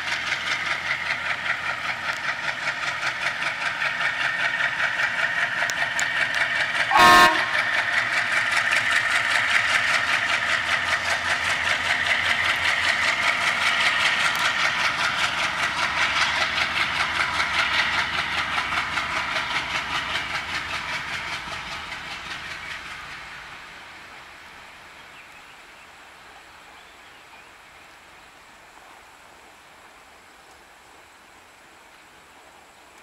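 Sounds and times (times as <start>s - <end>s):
diesel locomotives chugging: 0.0s - 31.4s.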